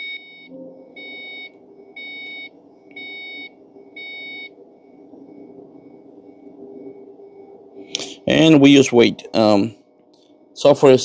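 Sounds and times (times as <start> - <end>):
car warning chime beeping: 0.0 - 9.5.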